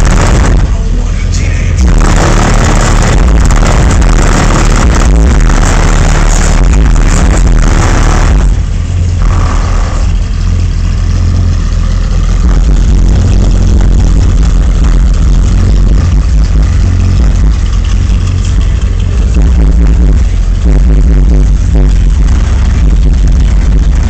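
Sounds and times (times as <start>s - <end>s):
deep bass music from car subwoofers: 0.0s - 24.0s.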